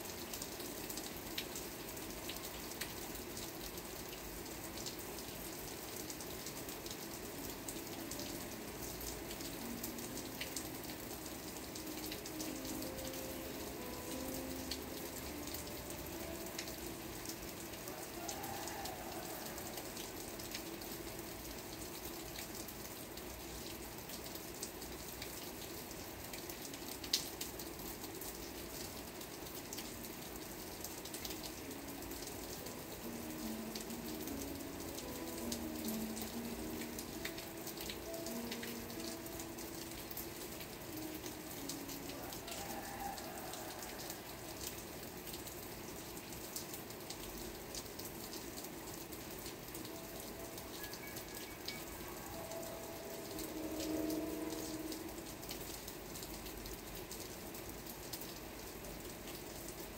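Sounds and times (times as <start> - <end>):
rain hissing: 0.0 - 59.9.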